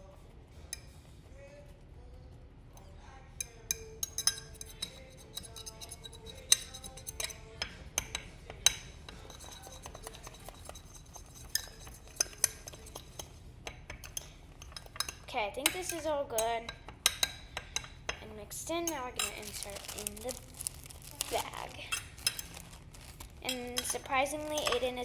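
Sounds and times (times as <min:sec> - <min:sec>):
utensil clinking against bowl: 0:02.8 - 0:25.0.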